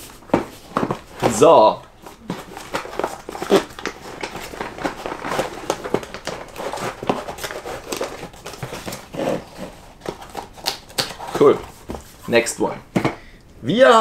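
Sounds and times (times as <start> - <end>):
cardboard and paper rustling: 0.0 - 13.1.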